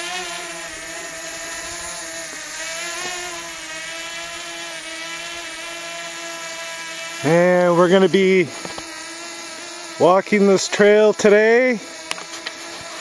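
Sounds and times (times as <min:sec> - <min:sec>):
drone propellers buzzing whine: 0:00.0 - 0:13.0.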